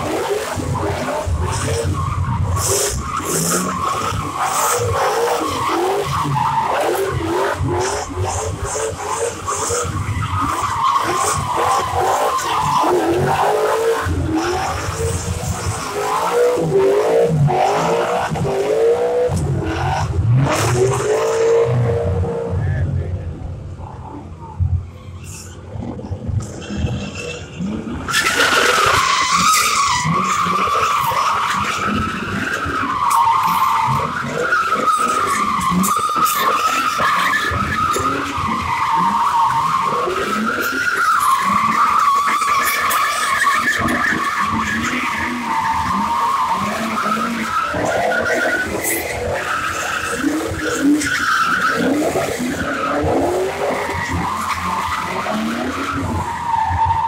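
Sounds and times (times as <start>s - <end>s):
car engine revving: 0.0s - 57.0s
car tires squealing: 0.0s - 57.0s.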